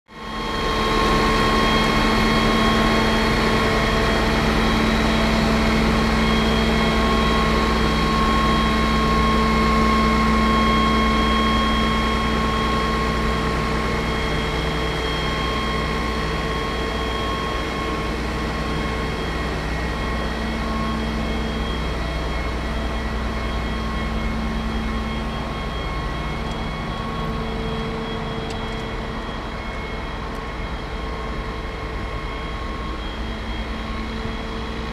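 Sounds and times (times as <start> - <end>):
steady whining tones: 0.1 - 34.9.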